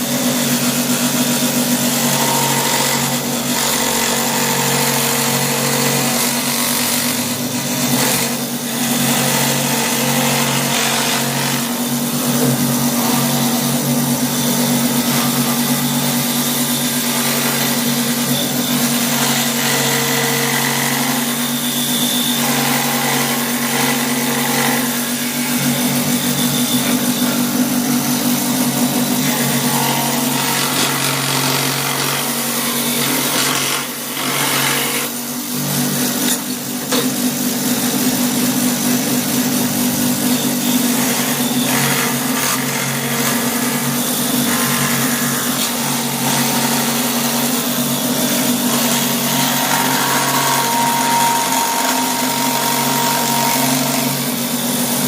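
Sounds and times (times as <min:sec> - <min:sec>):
die grinder grinding wood: 0:00.0 - 0:55.0.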